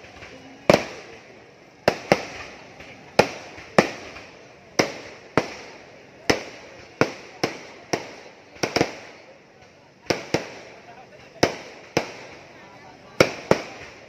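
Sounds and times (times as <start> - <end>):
fireworks bursting with bangs: 0.0 - 14.0.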